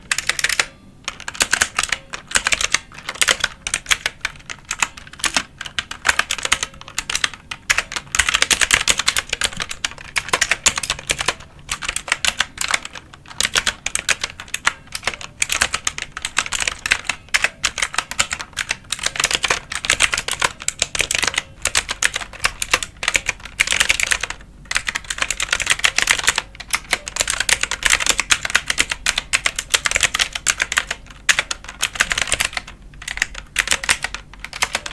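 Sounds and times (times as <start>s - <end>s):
fast typing on keyboard: 0.0s - 34.9s.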